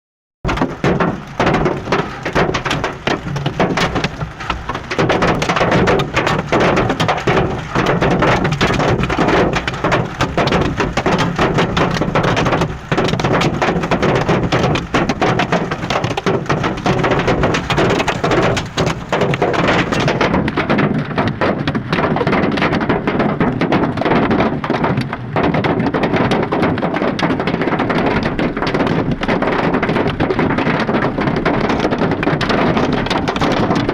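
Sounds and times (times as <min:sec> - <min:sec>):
hail clattering on a car: 0:00.5 - 0:33.9.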